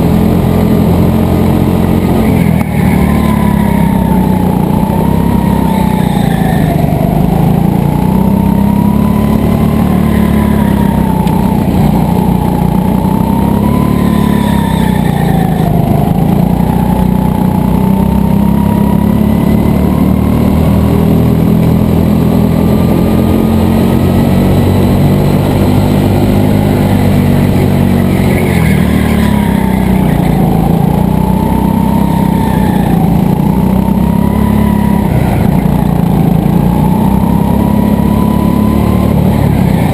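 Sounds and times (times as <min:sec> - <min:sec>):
go-kart motor whining: 0:00.0 - 0:39.9.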